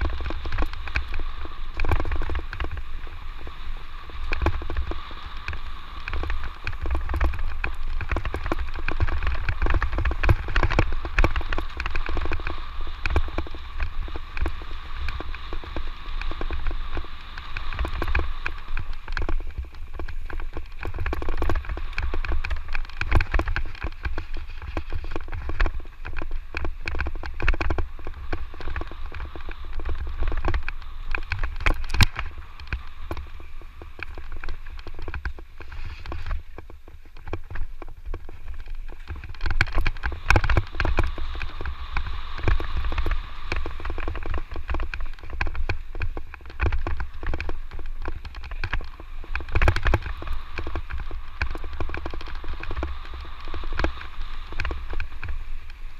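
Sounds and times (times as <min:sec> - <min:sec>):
bike clattering over rough ground: 0:00.0 - 0:55.9
steady high whine: 0:00.0 - 0:55.9
wind rumble on microphone: 0:00.0 - 0:55.9.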